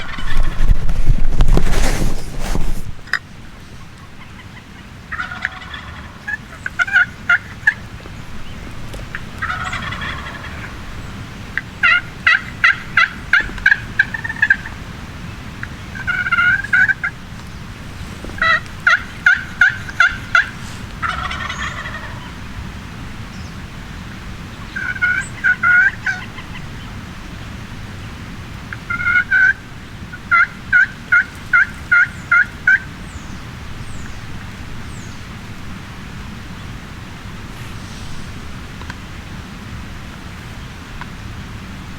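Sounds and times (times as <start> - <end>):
wild turkeys yelping: 0.0 - 0.8, 3.0 - 39.2
raspy turkey calls: 0.0 - 1.2, 3.0 - 39.2.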